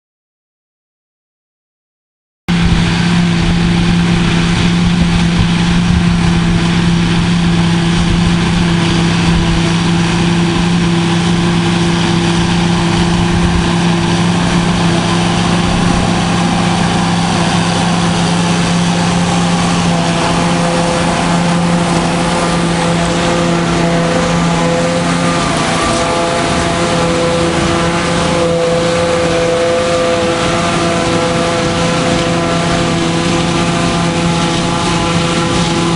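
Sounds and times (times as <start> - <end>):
diesel farm machinery running: 2.5 - 35.9
higher engine note: 2.5 - 35.9.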